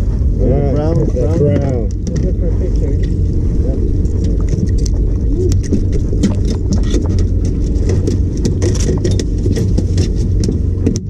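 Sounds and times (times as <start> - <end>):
boat noise: 0.0 - 11.0
wind rumble: 0.0 - 11.0.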